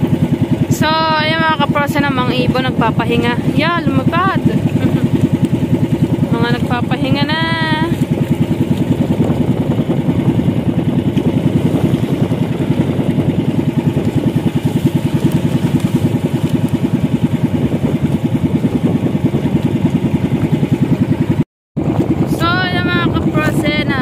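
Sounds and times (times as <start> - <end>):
boat engine pulsing: 0.0 - 24.0.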